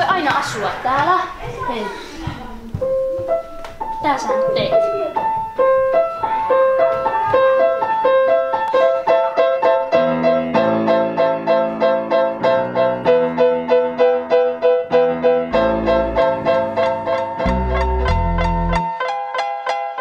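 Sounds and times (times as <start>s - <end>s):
piano melody: 2.4s - 20.0s.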